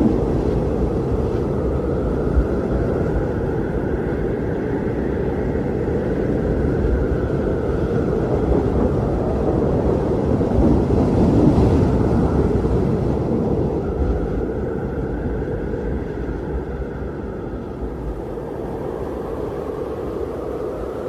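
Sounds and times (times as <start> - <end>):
strong wind rumbling: 0.0 - 21.0.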